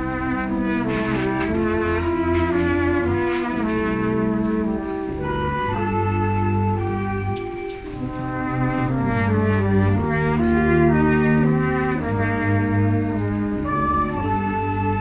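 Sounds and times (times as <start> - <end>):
brass band playing held chords: 0.0 - 15.0.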